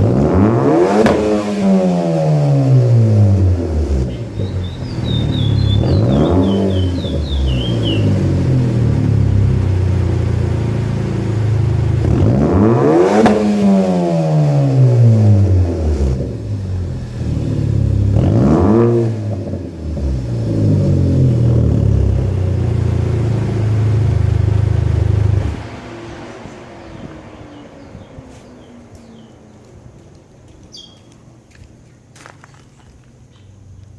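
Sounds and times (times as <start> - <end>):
car engine idling and revving: 0.0 - 31.7.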